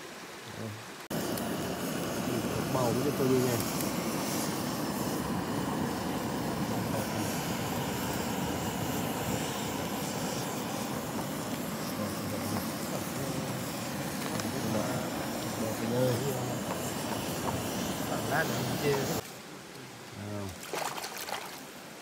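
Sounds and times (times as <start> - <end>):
blowtorch hissing: 1.0 - 19.2.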